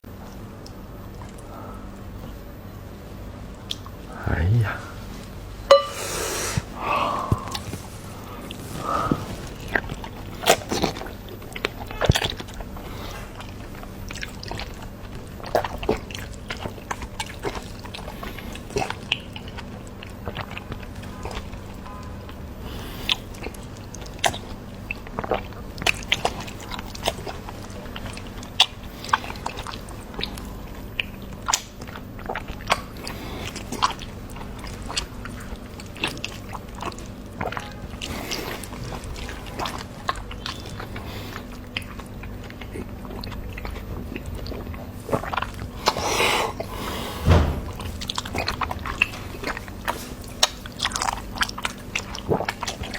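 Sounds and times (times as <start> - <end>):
faint steady hum: 0.0 - 52.9
person chewing pork fat: 0.1 - 52.9.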